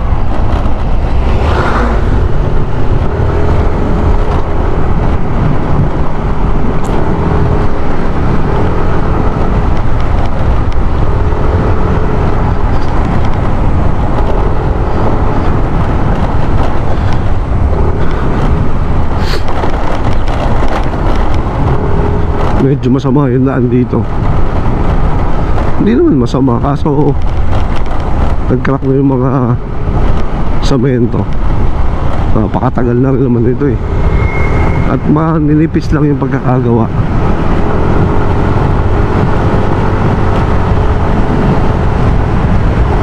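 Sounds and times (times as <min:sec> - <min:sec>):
wind rush on microphone: 0:00.0 - 0:43.0.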